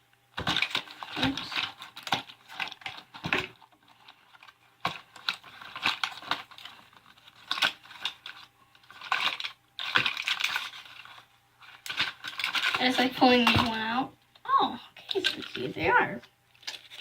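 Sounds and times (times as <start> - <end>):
plastic packaging crinkling: 0.3 - 17.0.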